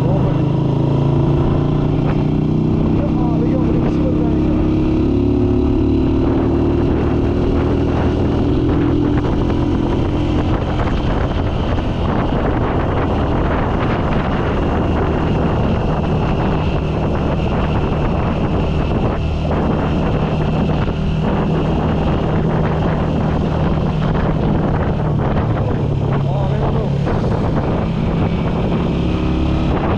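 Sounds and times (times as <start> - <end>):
motorcycle engine running: 0.0 - 29.9
wind noise on microphone: 0.0 - 29.9.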